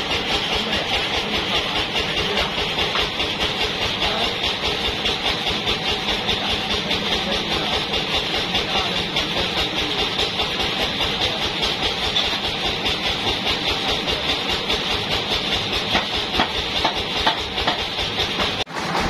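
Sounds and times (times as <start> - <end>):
band sawmill humming: 0.0 - 19.0.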